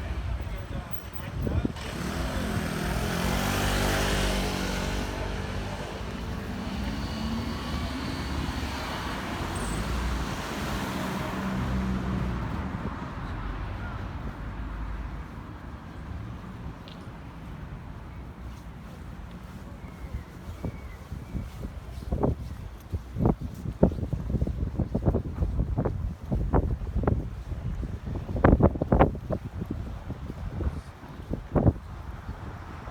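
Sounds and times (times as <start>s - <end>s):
vehicles passing: 0.0s - 32.9s.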